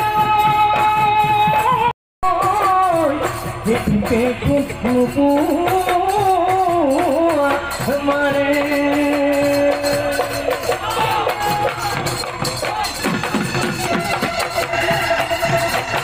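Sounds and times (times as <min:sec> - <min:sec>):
fast steady percussion: 0:00.0 - 0:16.0.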